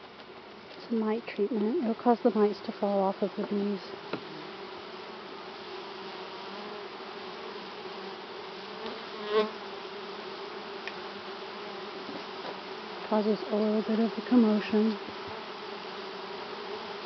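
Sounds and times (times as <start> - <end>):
honeybee colony buzzing: 0.0 - 17.0.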